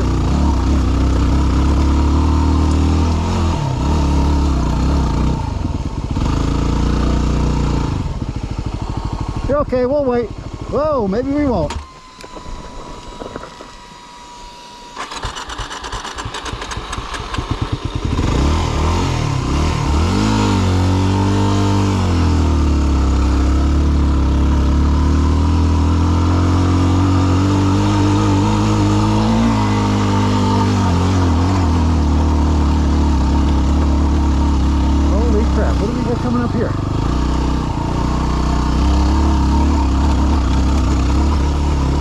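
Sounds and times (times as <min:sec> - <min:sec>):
motorcycle engine revving hard: 0:00.0 - 0:11.7, 0:14.9 - 0:42.0.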